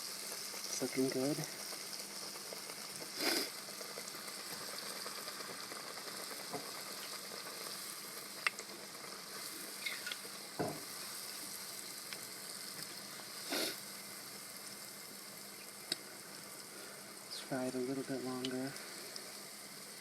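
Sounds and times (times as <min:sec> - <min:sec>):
deep-frying sizzle with pops: 0:00.0 - 0:20.0.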